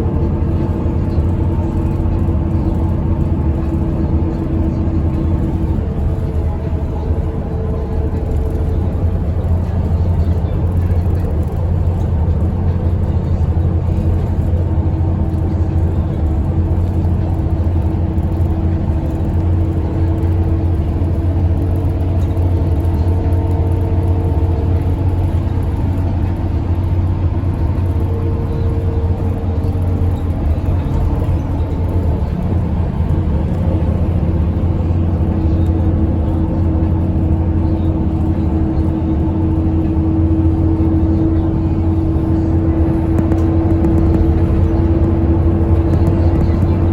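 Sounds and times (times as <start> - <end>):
bus engine drone: 0.0 - 46.9
road noise: 0.0 - 46.9.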